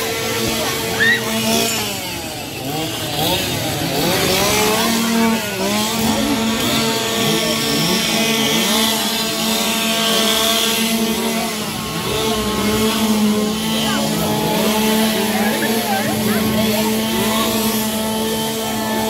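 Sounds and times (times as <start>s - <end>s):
chainsaws revving: 0.0s - 19.0s.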